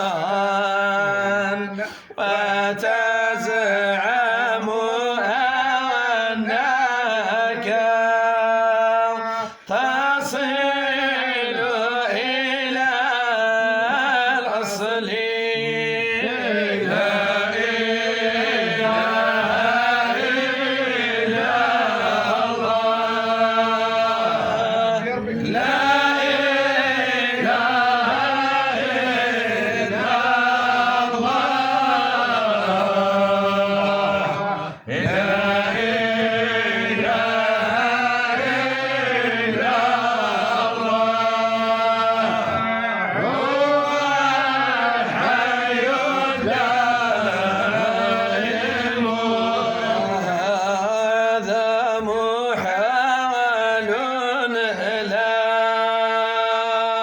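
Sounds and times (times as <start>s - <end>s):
devotional chanting: 0.0s - 57.0s.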